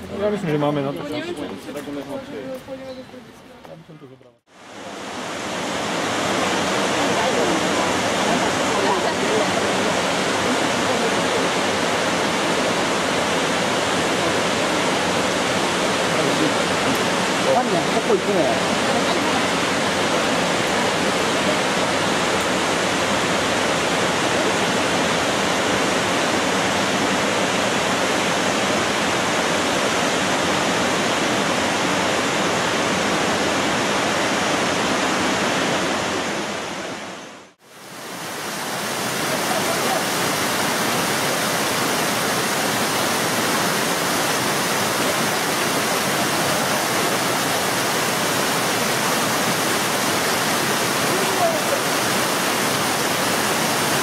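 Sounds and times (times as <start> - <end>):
waterfall rushing over rocks: 4.5 - 54.0.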